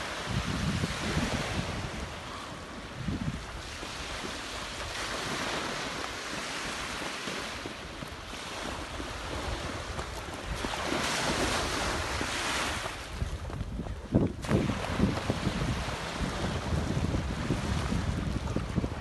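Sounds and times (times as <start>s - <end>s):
small waves washing on shore: 0.0s - 19.0s
wind on microphone: 0.0s - 19.0s.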